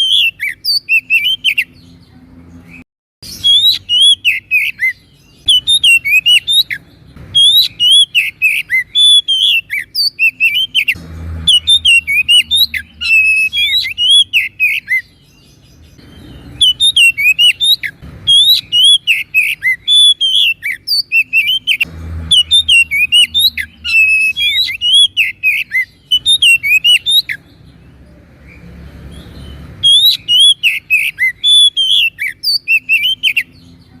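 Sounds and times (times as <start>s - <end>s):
bird singing whistles and chirps: 0.0s - 34.0s.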